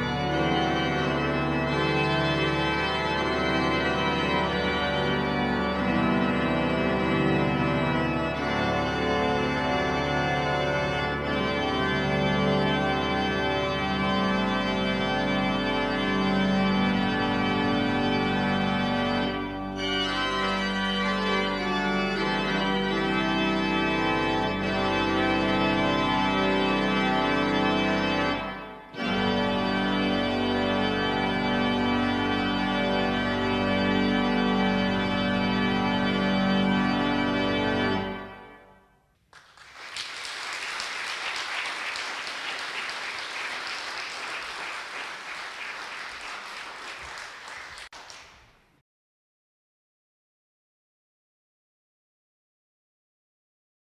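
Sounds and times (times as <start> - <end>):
pipe organ fanfare: 0.0 - 38.8, 39.5 - 48.1.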